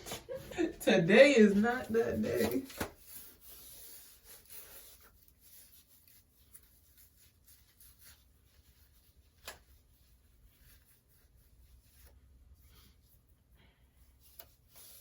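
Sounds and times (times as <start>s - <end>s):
faint rubbing and handling: 0.0s - 15.0s.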